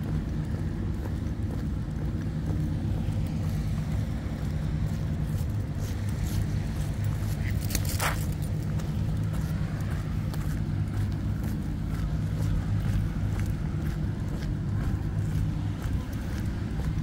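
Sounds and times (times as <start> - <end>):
motorboat engine drone: 0.0 - 17.0.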